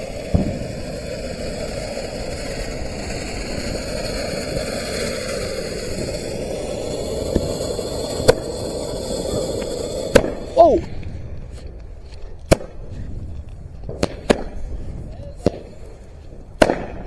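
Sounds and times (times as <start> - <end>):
sharp firework crack: 0.0 - 11.1, 12.4 - 13.2, 13.8 - 17.0
firework fountain hissing: 0.0 - 11.8, 12.4 - 17.0.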